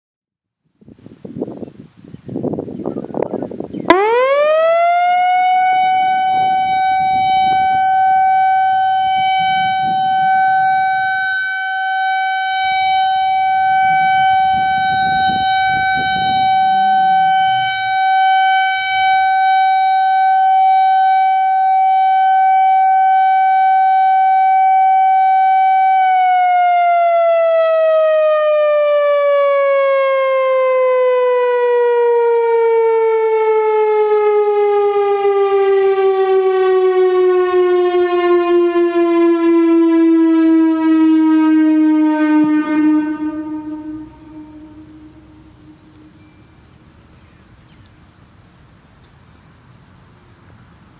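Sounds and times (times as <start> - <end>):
outdoor warning siren tone: 3.8 - 46.9.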